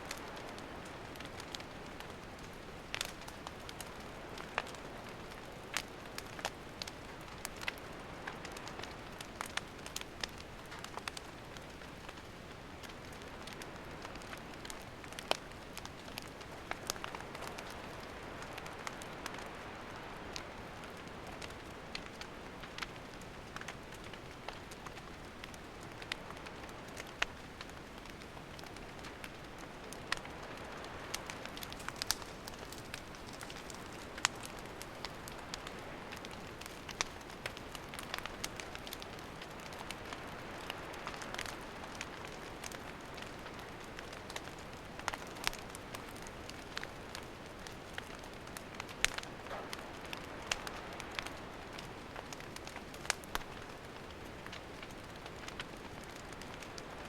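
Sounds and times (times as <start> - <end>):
campfire crackling and hissing: 0.0 - 57.0.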